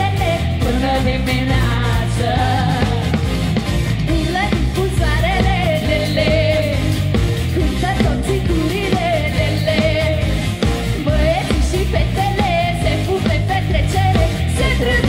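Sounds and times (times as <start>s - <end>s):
woman singing with vibrato: 0.0s - 3.2s, 4.1s - 10.4s, 11.0s - 15.0s
band playing live: 0.0s - 15.0s.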